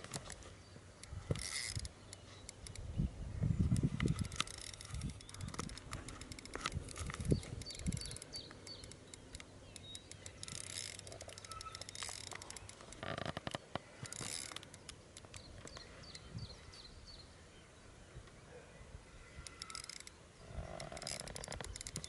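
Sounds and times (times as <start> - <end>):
small birds chirping: 0.2 - 22.0.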